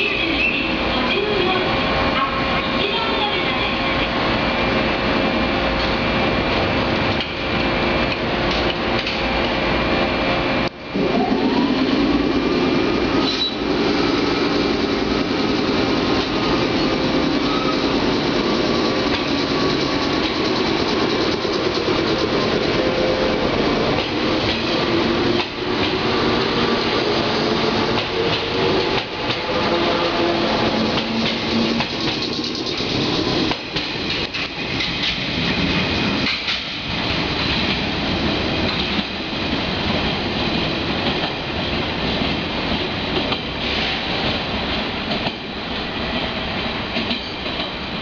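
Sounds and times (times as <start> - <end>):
electric train hum: 0.0 - 48.0.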